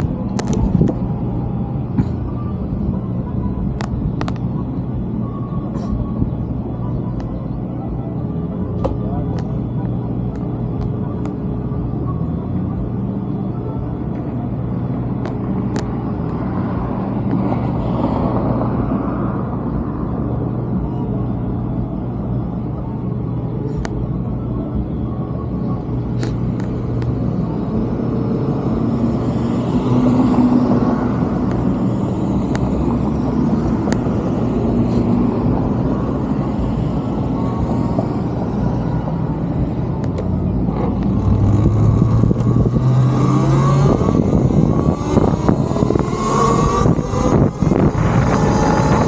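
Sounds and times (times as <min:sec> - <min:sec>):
cars idling and passing: 0:00.0 - 0:49.0
traffic pulling away whine: 0:00.0 - 0:49.0.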